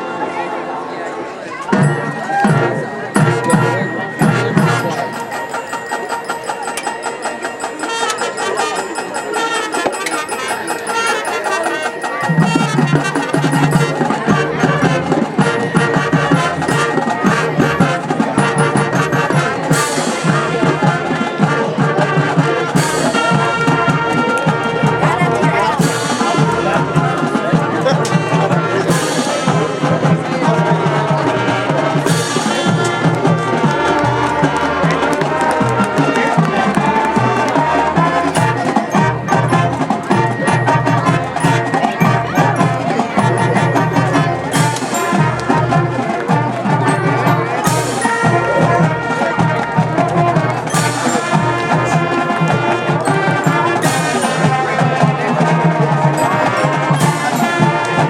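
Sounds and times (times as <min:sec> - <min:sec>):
marching band brass: 0:00.0 - 0:58.0.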